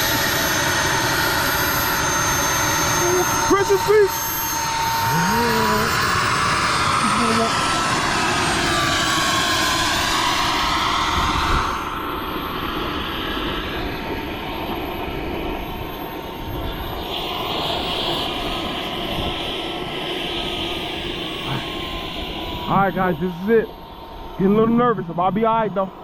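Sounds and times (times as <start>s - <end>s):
aircraft engine passing by: 0.0s - 26.0s.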